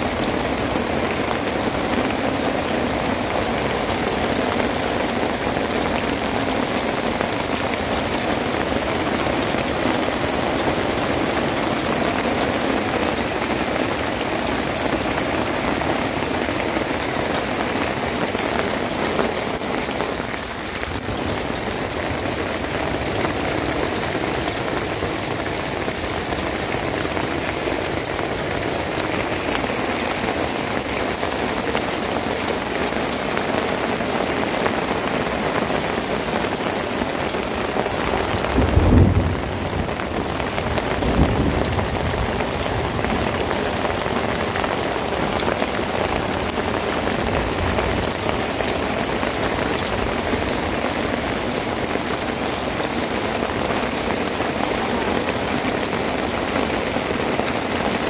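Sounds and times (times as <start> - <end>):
heavy rain on muddy ground: 0.0 - 58.0.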